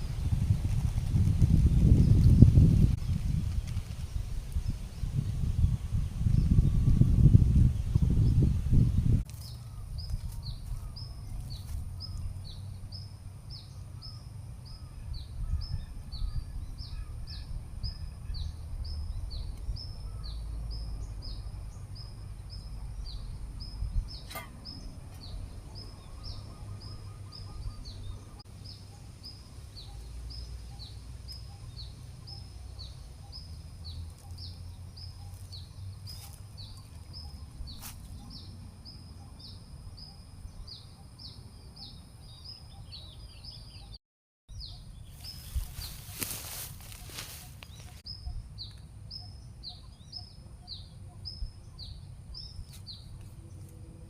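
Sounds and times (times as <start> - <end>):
bird chirping: 9.4 - 53.8.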